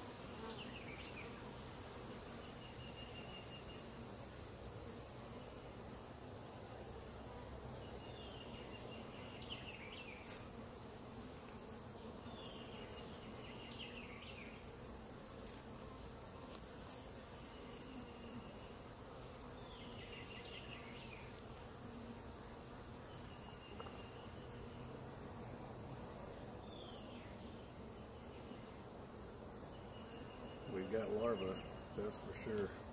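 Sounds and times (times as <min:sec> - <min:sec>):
honeybees humming: 0:00.0 - 0:32.9.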